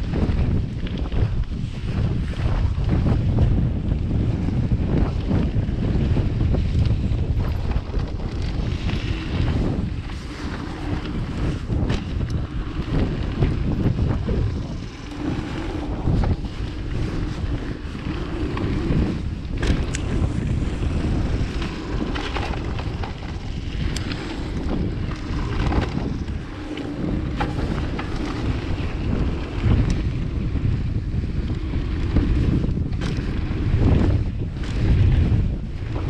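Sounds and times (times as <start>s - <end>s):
bike clicks and knocks: 0.0s - 36.0s
tyres rolling on trail: 0.0s - 36.0s
wind buffeting microphone: 0.0s - 36.0s.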